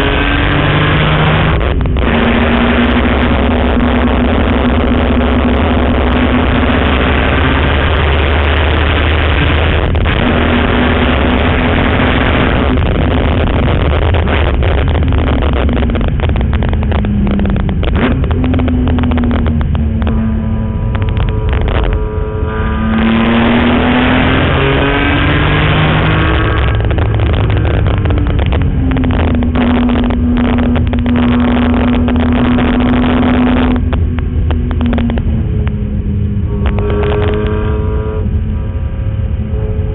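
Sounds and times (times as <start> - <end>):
car engine at racing speed: 0.0 - 39.9
wind and road noise: 0.0 - 39.9.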